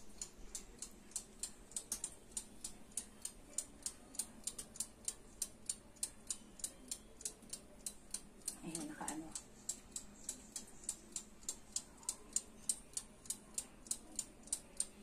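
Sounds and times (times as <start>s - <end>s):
wind-up timer ticking: 0.0s - 15.0s.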